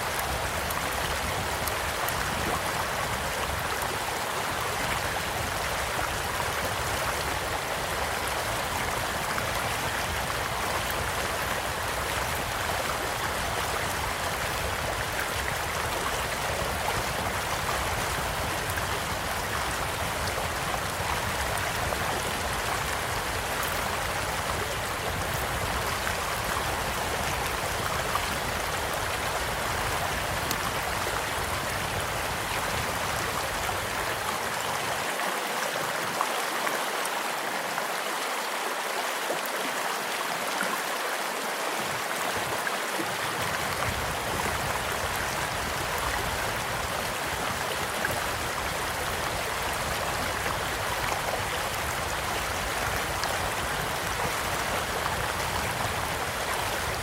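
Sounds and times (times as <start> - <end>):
small stream flowing: 0.0 - 57.0.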